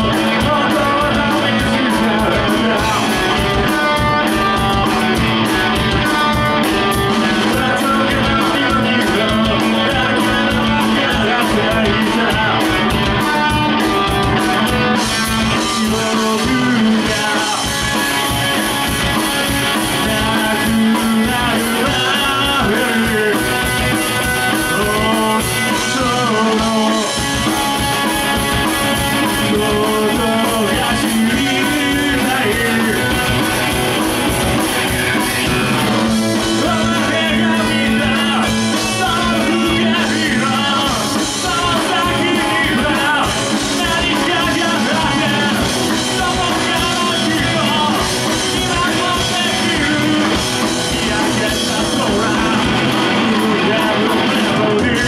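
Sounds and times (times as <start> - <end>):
drums: 0.0 - 55.0
electric guitar: 0.0 - 55.0.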